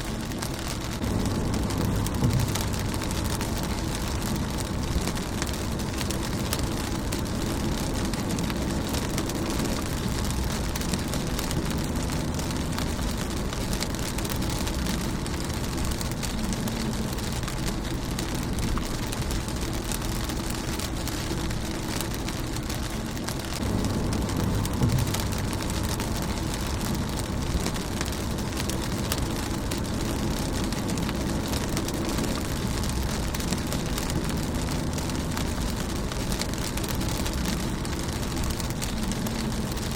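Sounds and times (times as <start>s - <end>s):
low rumble: 0.0s - 39.9s
rain pattering on windshield: 0.0s - 39.9s.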